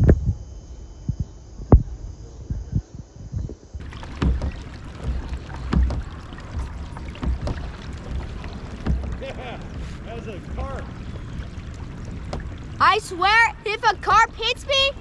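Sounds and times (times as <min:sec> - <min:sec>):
water sloshing against hull: 0:00.0 - 0:15.0
low knocks and thumps: 0:01.0 - 0:15.0.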